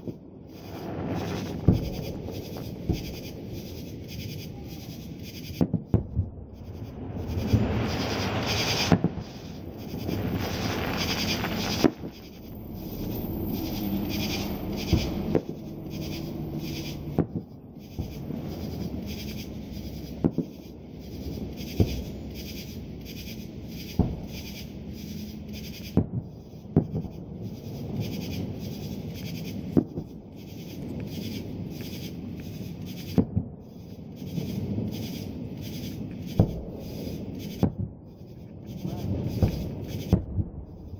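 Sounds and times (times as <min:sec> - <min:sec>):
distant firework bangs: 0:00.0 - 0:40.6.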